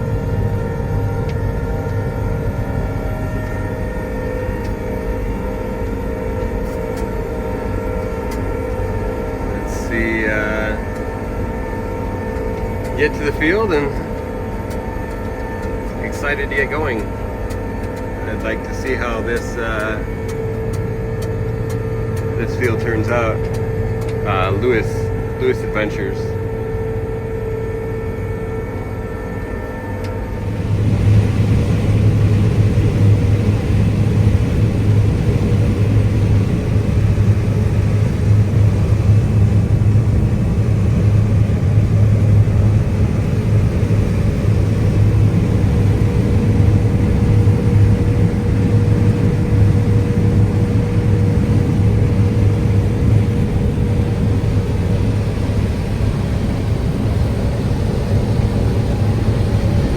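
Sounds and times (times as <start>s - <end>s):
combine engine humming: 0.0s - 59.9s.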